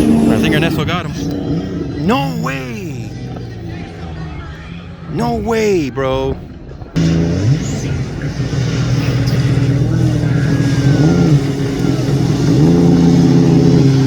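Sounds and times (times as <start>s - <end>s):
jet ski engine running: 0.0s - 5.6s, 6.4s - 14.0s.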